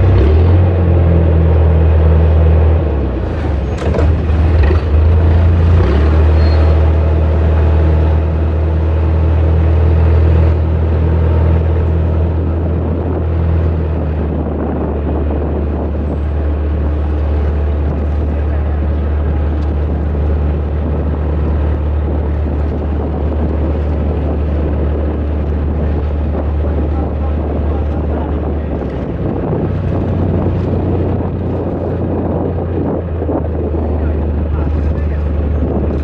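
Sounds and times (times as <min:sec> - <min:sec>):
large engine droning: 0:00.0 - 0:36.0.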